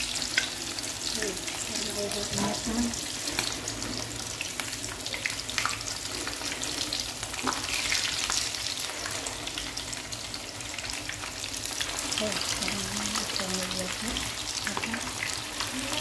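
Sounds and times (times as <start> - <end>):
shrimp frying in hot oil: 0.0 - 16.0.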